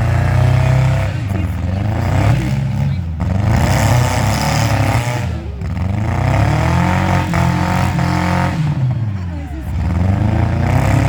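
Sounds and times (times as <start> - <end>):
car engines revving loudly: 0.0 - 11.0.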